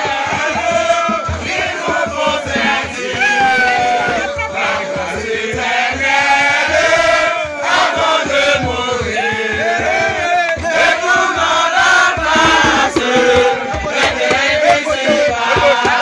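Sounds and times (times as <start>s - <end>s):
group chanting and singing: 0.0s - 16.0s.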